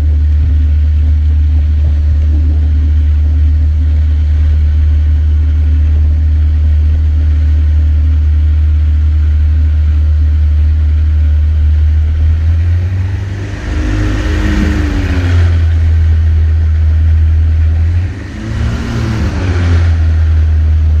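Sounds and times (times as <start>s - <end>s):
engine revving: 0.0s - 21.0s
small aircraft engine idling: 0.0s - 21.0s.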